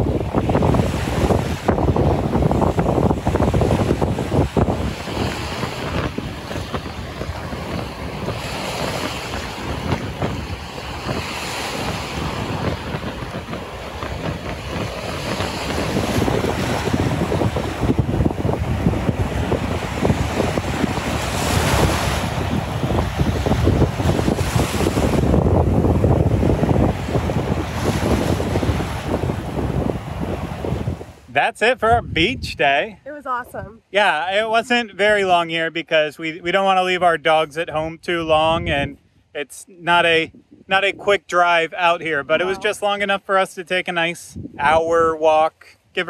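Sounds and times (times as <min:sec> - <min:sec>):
surf washing onto beach: 0:00.0 - 0:32.9, 0:39.9 - 0:45.6
wind buffeting microphone: 0:00.0 - 0:35.4, 0:37.6 - 0:39.3, 0:40.0 - 0:43.0, 0:44.2 - 0:45.2.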